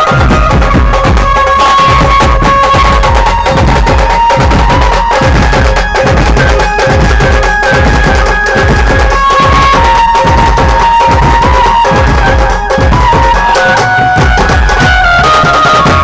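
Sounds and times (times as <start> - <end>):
folk dance music over sound system: 0.0 - 16.0.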